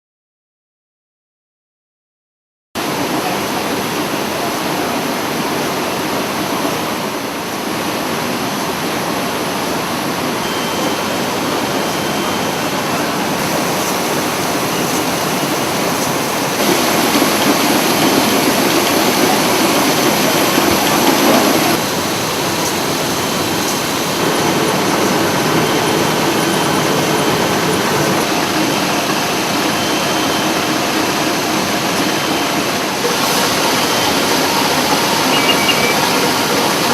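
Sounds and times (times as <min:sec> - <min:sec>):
industrial vacuum system running: 0:02.8 - 0:36.9.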